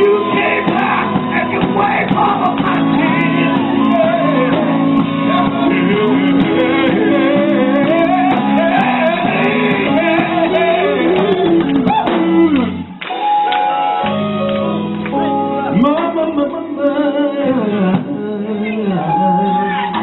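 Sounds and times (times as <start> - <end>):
gospel band sustained chords: 0.0 - 20.0.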